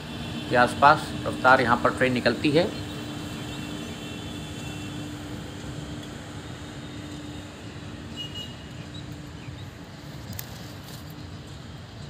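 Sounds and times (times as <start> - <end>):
train wheels running on rails: 0.0 - 12.0.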